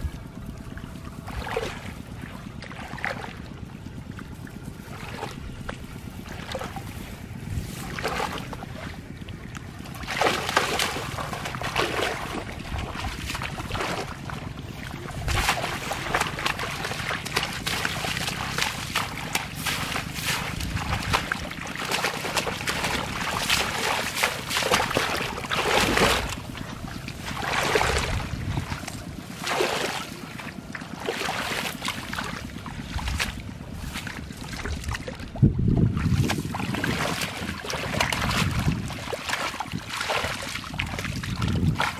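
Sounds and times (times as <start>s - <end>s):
hands splashing in muddy water: 0.0s - 41.9s.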